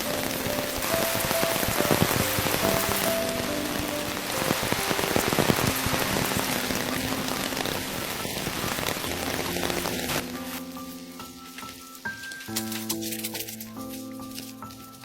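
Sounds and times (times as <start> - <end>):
heavy rain pattering: 0.0 - 15.0.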